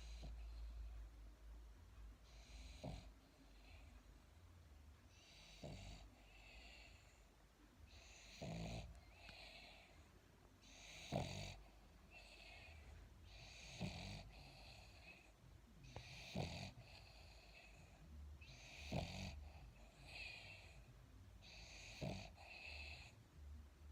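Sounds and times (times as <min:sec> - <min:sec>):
dog snoring: 0:00.0 - 0:01.0, 0:02.2 - 0:04.0, 0:05.1 - 0:07.3, 0:07.9 - 0:23.2.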